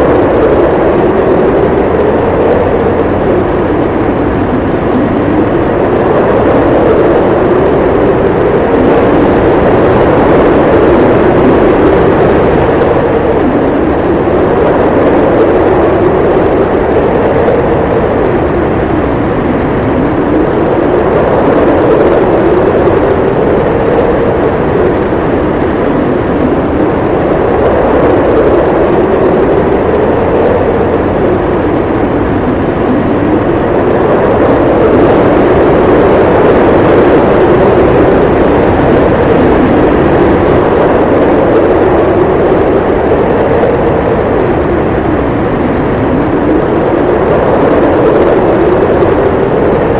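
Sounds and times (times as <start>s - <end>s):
howling snowstorm wind: 0.0s - 49.9s.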